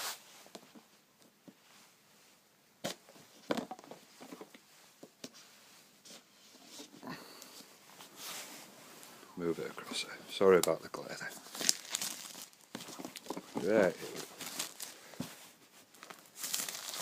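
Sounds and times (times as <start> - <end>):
faint rustling: 3.1 - 17.0.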